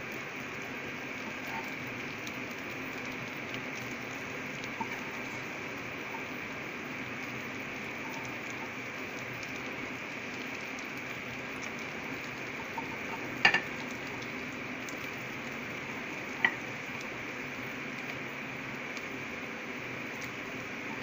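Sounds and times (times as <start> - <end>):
chicken sizzling in a pan: 0.0 - 21.0.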